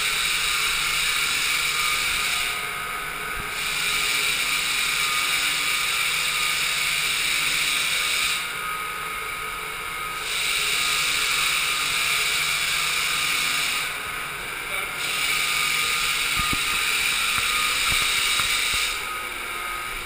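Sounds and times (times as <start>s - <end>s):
floor sander hissing motor: 0.0s - 20.0s.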